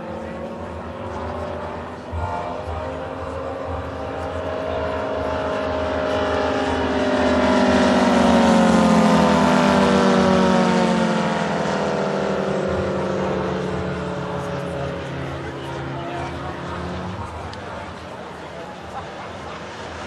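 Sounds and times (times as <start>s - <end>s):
model airplane engine droning: 0.0s - 20.0s.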